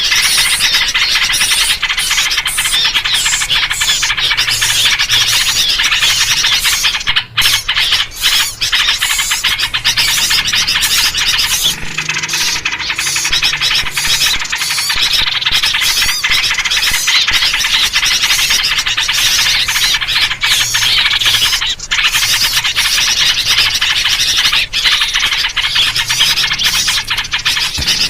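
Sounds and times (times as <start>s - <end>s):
songbirds chattering: 0.0s - 28.0s.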